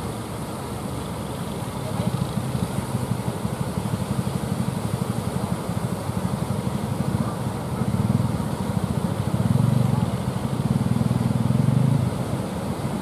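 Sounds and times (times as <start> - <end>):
boat engines chugging: 0.0 - 13.0.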